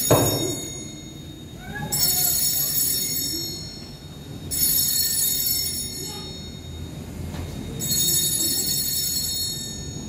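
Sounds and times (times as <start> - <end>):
small bells ringing: 0.0 - 10.0.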